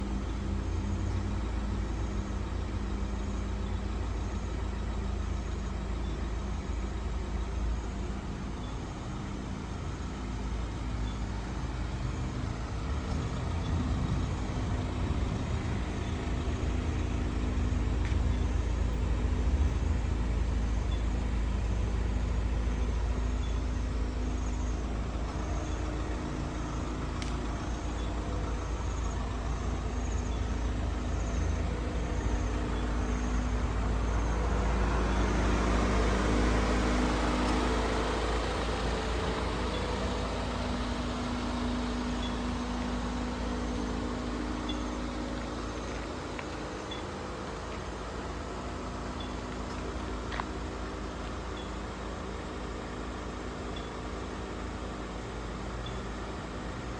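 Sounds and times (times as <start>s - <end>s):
vehicle engine rumbling: 0.0s - 56.9s.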